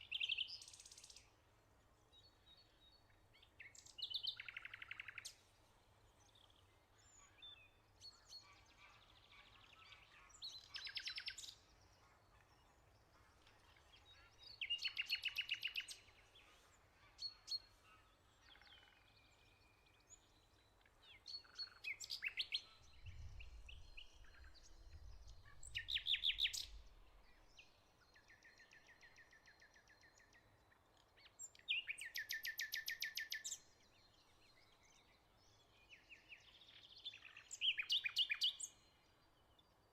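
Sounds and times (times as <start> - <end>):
soft bird chirps: 0.0 - 1.3, 2.2 - 5.4, 6.2 - 39.9.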